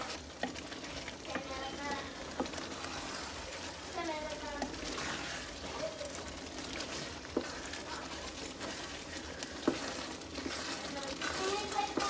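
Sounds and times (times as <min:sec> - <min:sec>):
food simmering in skillet: 0:00.0 - 0:12.0
wooden spoon stirring thick food: 0:00.0 - 0:12.0.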